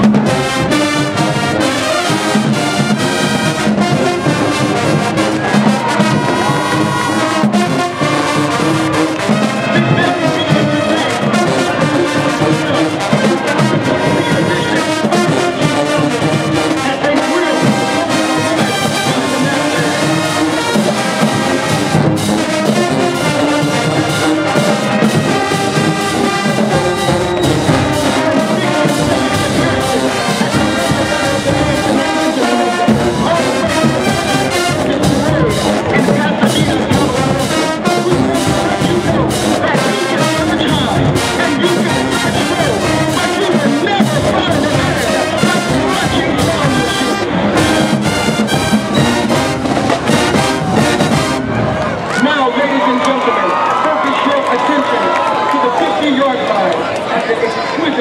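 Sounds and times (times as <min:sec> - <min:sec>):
drums keeping a beat: 0:00.0 - 0:52.0
marching band playing: 0:00.0 - 0:58.0
trombones and trumpets: 0:00.0 - 0:58.0.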